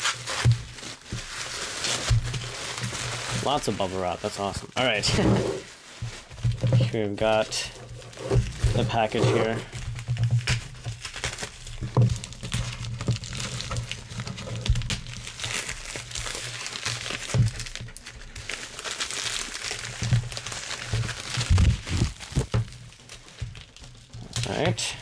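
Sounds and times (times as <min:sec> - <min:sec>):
plastic envelope crinkling: 0:00.0 - 0:25.0.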